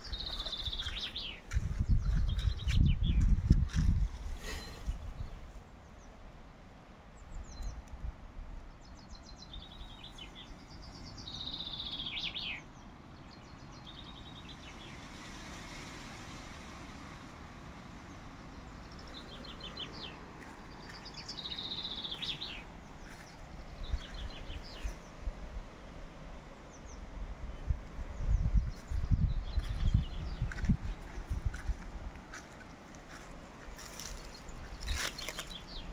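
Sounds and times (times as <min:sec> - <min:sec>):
songbird singing: 0:00.0 - 0:15.9, 0:17.1 - 0:35.9.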